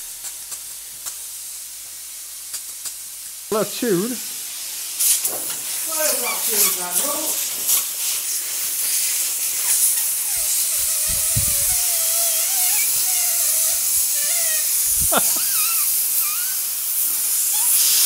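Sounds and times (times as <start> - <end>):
compressed air hissing: 0.0 - 18.0.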